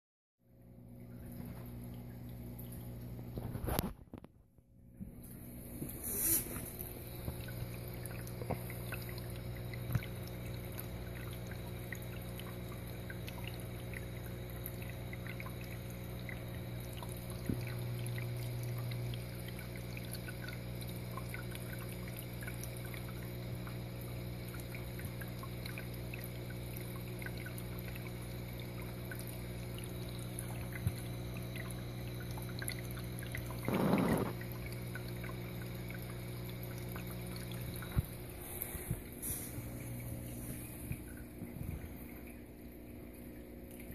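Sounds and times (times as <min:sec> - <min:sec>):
aquarium pump humming: 0:00.5 - 0:43.9
water trickling and splashing: 0:05.7 - 0:43.9.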